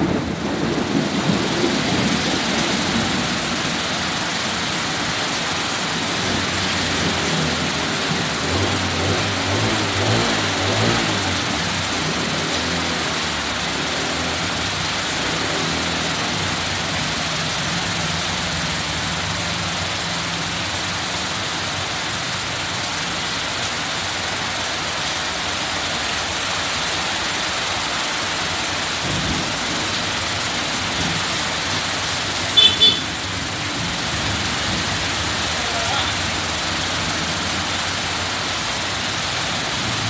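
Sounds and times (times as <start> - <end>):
heavy rain pouring: 0.0 - 40.0
vehicle engine humming: 0.0 - 40.0
wind: 0.0 - 40.0.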